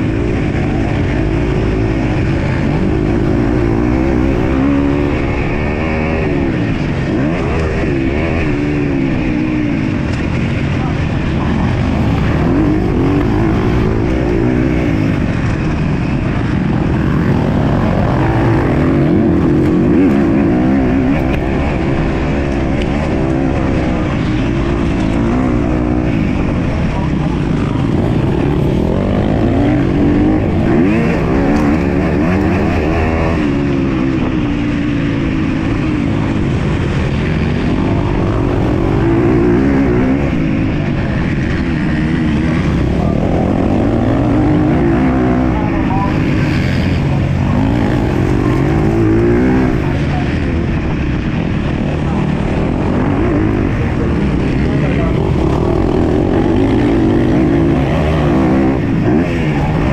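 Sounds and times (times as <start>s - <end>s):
motorbike engine revving hard: 0.0s - 59.9s.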